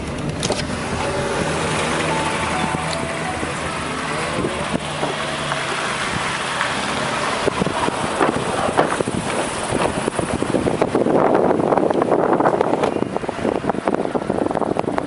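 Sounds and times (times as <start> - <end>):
car engine running: 0.0 - 15.0
wind on microphone: 0.0 - 15.0.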